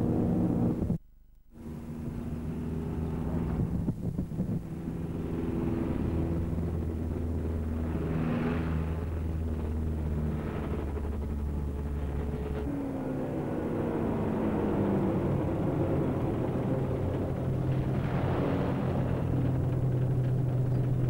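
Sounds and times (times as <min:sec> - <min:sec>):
bus engine humming: 0:00.0 - 0:21.0.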